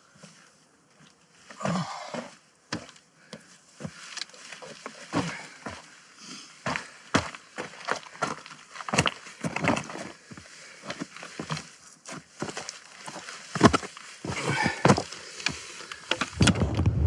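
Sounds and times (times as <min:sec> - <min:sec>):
boots stepping on stones: 0:01.5 - 0:05.9, 0:06.6 - 0:17.0.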